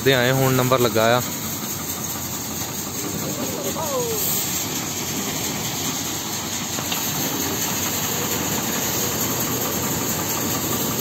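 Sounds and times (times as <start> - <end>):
conveyor motor humming: 0.0 - 11.0
hiss of pouring grain: 0.0 - 11.0.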